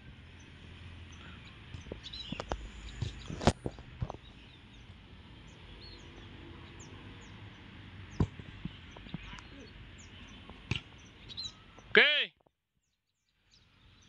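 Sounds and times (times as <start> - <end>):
birds chirping: 0.0 - 14.0
outdoor ambience: 0.0 - 14.0.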